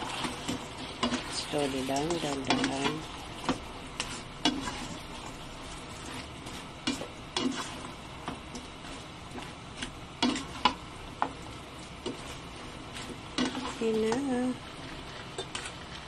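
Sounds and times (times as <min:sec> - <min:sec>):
food sizzling in a wok: 0:00.0 - 0:16.0
spatula scraping and knocking pan: 0:00.0 - 0:16.0.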